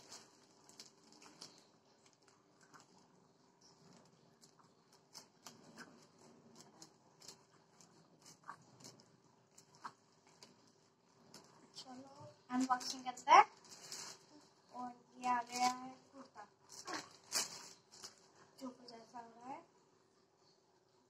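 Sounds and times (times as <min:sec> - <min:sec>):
plastic bag crinkling: 0:00.0 - 0:18.8
room hum: 0:00.0 - 0:21.0.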